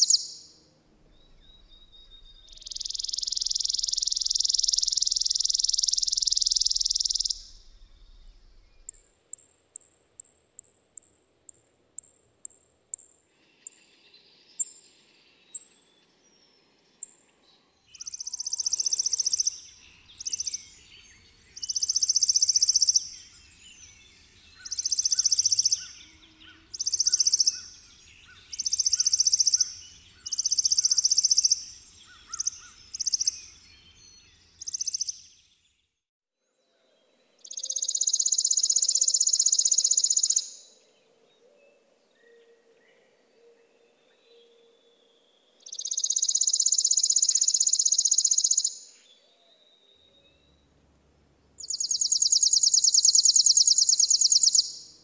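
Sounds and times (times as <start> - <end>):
sparrow chips and trills: 0.0 - 0.6, 1.2 - 35.5, 37.4 - 40.8, 45.6 - 49.1, 51.6 - 55.0.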